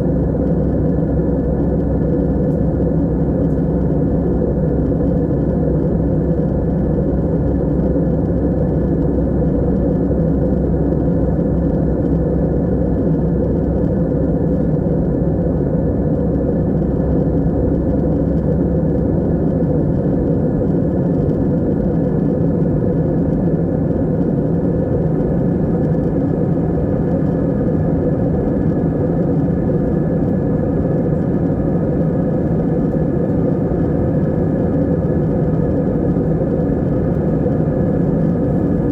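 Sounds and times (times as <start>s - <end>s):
aeroplane cabin engine drone: 0.0s - 38.9s.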